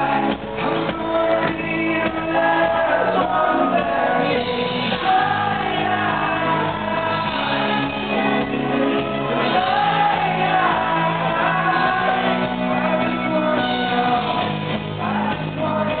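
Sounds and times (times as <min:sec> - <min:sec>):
crowd shouting and singing along: 0:00.0 - 0:16.0
live pop-rock band with singer: 0:00.0 - 0:16.0.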